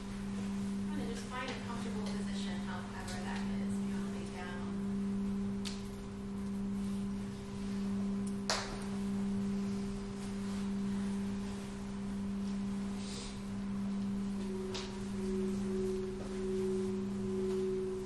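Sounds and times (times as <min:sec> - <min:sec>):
singing bowls ringing: 0:00.0 - 0:18.0.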